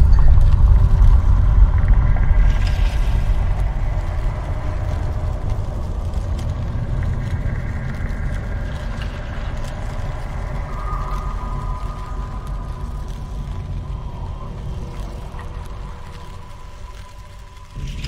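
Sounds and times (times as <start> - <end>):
ambient drone music: 0.0 - 18.0.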